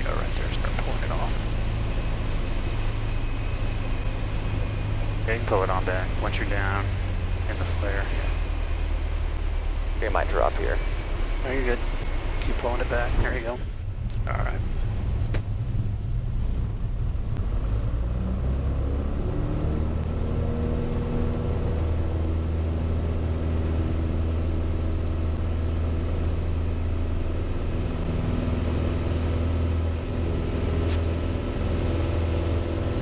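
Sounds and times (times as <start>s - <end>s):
airplane engine and propeller: 0.0s - 33.0s.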